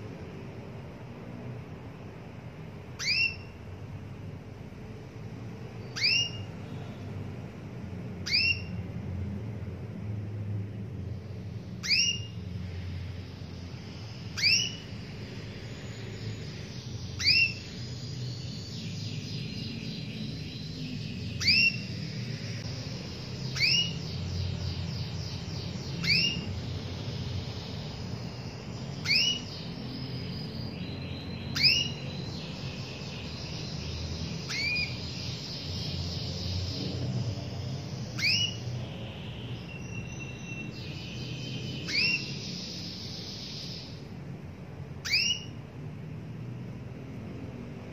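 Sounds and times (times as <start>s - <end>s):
canary rising chirps: 0.0s - 47.9s
canary fast trills: 1.7s - 10.0s, 10.7s - 45.8s.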